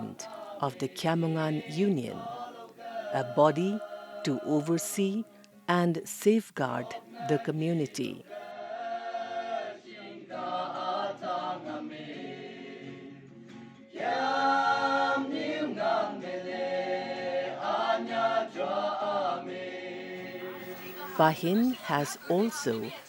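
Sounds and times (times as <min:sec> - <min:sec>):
wordless choral singing: 0:00.0 - 0:23.0.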